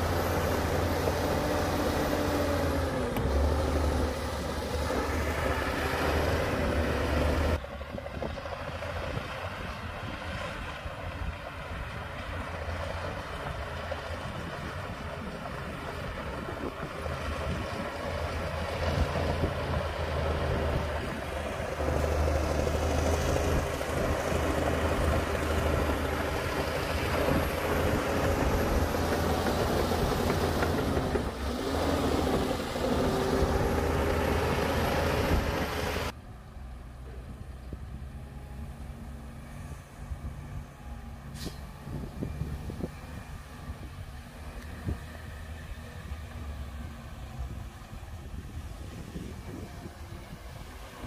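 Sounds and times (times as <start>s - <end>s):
bulldozer diesel engine: 0.0s - 51.0s.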